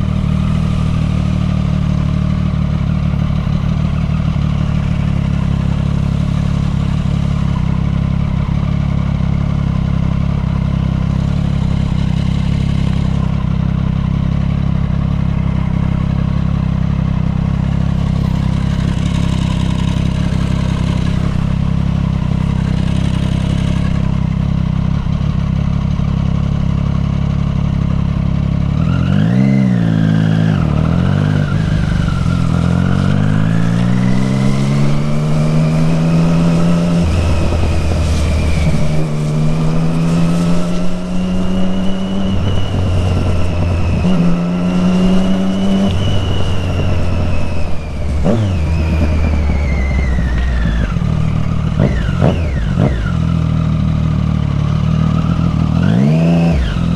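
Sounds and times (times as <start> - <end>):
motorcycle engine idling and revving: 0.0 - 56.9.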